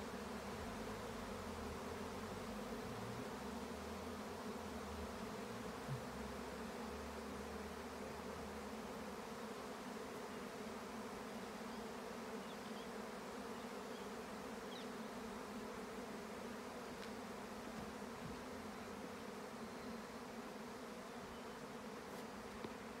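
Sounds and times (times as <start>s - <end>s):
insect swarm buzzing: 0.0s - 23.0s.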